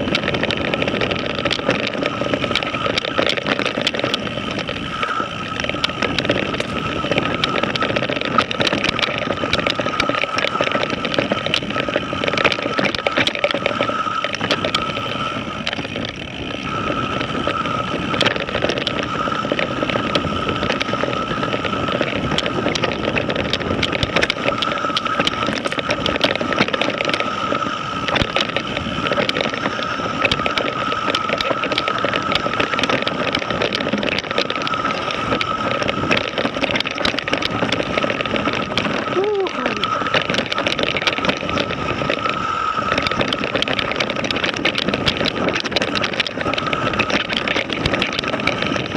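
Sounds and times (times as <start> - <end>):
bike clicks and rattles: 0.0 - 48.9
bike tyres rumbling over dirt: 0.0 - 48.9
continuous rushing noise: 0.0 - 48.9
steady high whine: 0.0 - 48.9.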